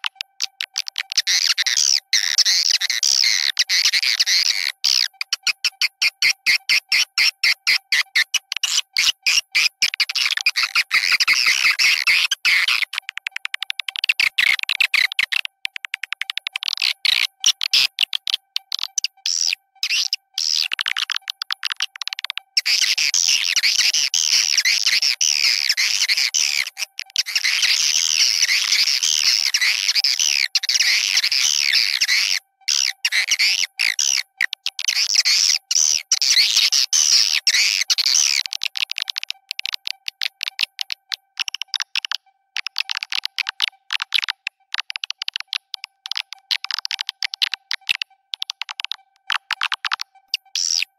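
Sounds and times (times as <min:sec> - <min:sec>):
swiftlet clicks and twittering: 0:00.0 - 0:50.9.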